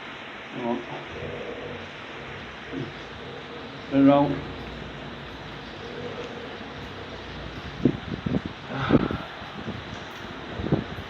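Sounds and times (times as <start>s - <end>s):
heavy rain: 0.0s - 11.0s
wind on microphone: 1.1s - 11.0s.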